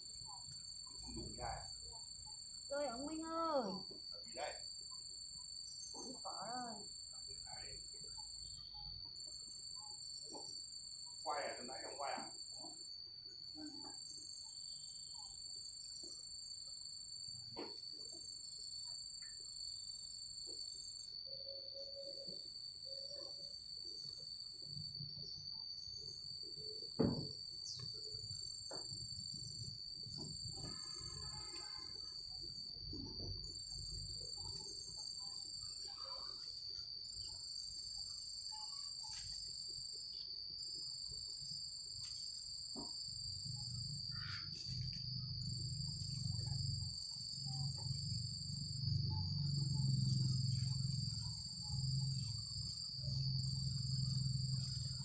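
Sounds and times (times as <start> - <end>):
higher insect trill: 0.0 - 55.0
insects trilling: 0.0 - 55.0.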